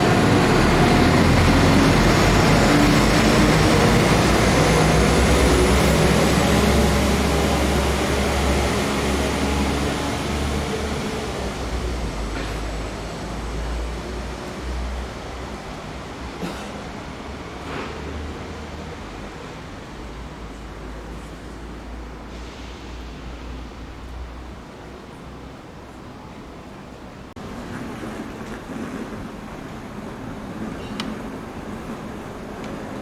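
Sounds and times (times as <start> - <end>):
diesel train engine rumble: 0.0 - 33.0
wheels rushing on rails: 0.0 - 33.0.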